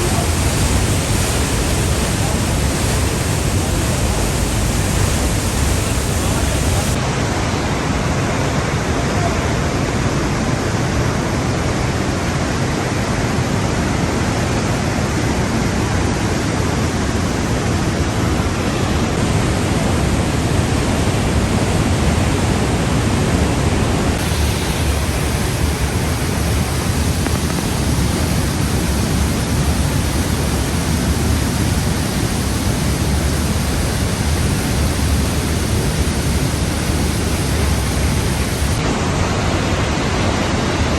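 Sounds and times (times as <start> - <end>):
water rushing through rock gorge: 0.0 - 40.9.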